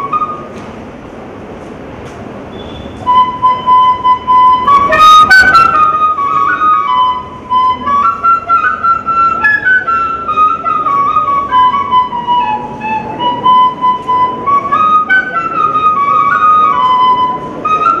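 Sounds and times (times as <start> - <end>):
nose flute melody: 0.0 - 0.8, 2.5 - 18.0.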